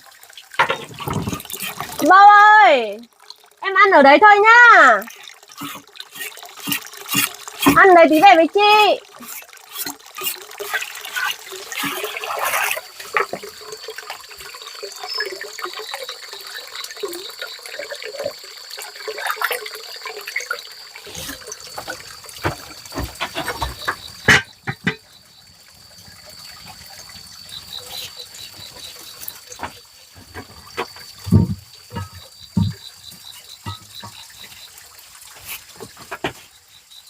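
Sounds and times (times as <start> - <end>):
water splashing and trickling: 0.0 - 37.0.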